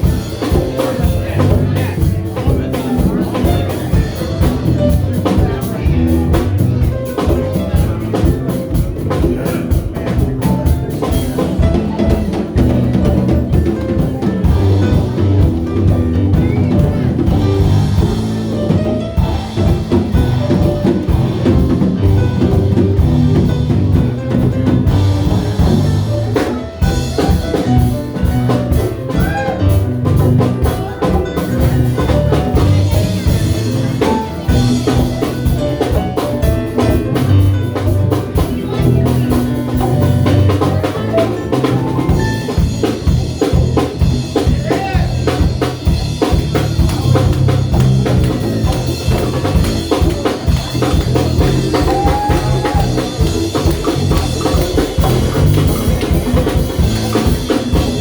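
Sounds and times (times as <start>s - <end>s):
band playing: 0.0s - 58.0s
drum-kit beat: 0.0s - 58.0s
low bass notes: 0.0s - 58.0s.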